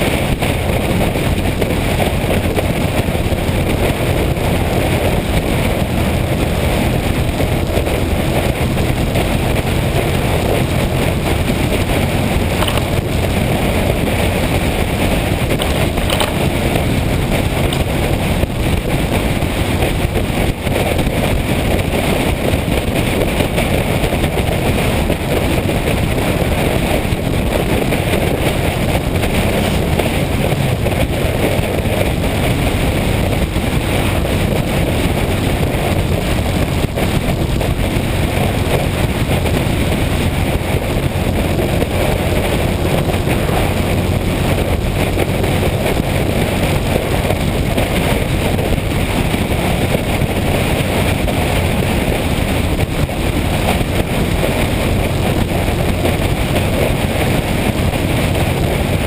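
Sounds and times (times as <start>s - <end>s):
motorcycle engine drone: 0.0s - 59.0s
wind rush on microphone: 0.0s - 59.0s.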